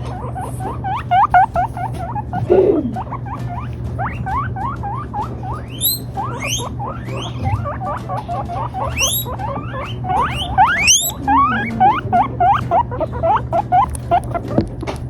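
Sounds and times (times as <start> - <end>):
guinea pig rising whistle: 0.0 - 14.6
guinea pigs squeaking: 0.0 - 15.0.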